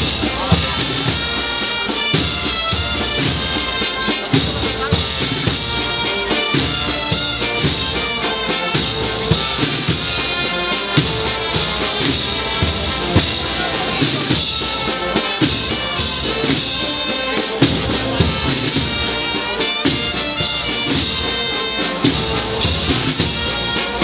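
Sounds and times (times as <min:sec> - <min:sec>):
brass band playing a march: 0:00.0 - 0:24.0
sharp drum strokes: 0:00.0 - 0:24.0.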